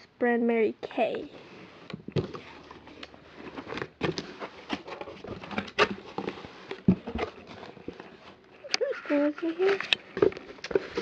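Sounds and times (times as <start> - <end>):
packaging rustling: 2.1 - 11.0.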